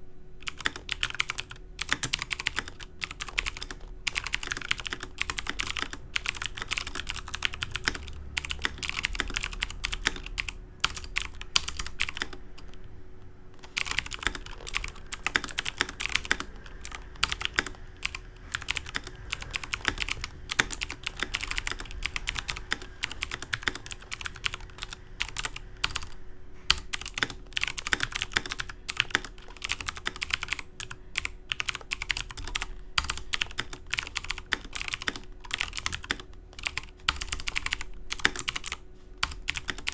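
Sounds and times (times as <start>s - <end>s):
fast typing on clicky keyboard: 0.4s - 12.9s, 13.6s - 39.9s.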